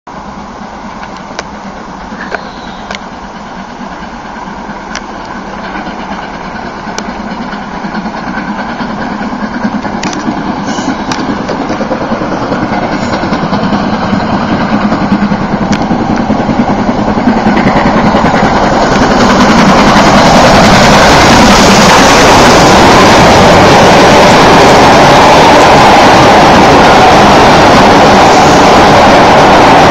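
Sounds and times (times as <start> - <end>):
steam locomotive approaching: 0.1 - 29.9.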